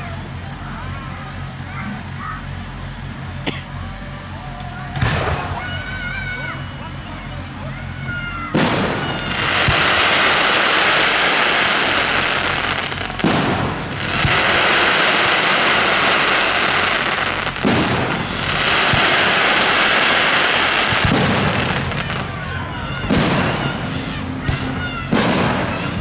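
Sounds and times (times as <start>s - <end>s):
fireworks bursts: 0.0s - 26.0s
fireworks crackling: 0.0s - 26.0s.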